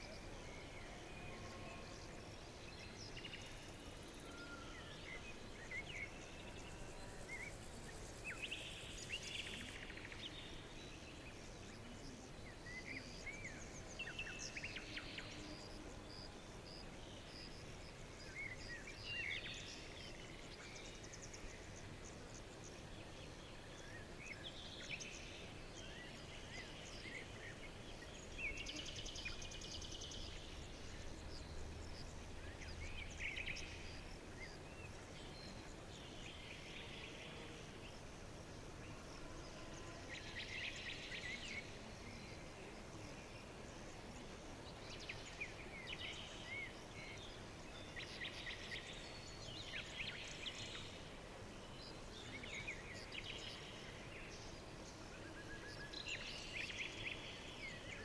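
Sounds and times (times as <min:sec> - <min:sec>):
low background hiss: 0:00.0 - 0:58.0.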